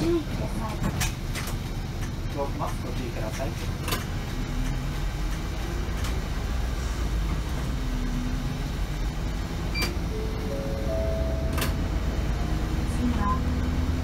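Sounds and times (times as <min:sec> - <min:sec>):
bus engine humming: 0:00.0 - 0:14.0.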